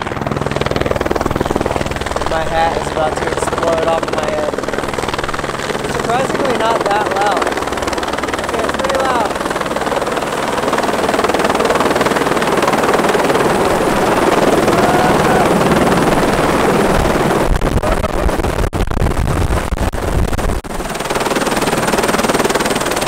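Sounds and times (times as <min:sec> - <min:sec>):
helicopter running: 0:00.0 - 0:23.0
rotor wash buffeting microphone: 0:00.0 - 0:23.0.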